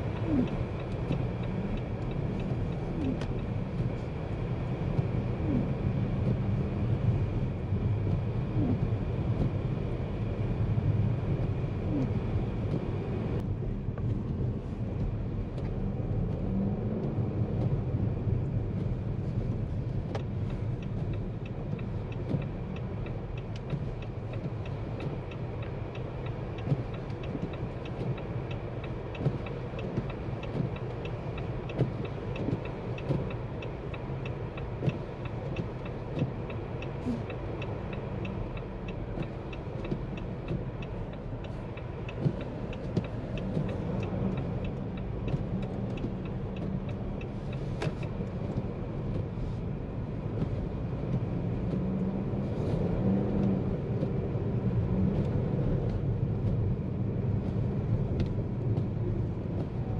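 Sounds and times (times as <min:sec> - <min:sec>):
engine and tyres rumbling: 0:00.0 - 0:59.9
faint light ticks: 0:00.0 - 0:59.9.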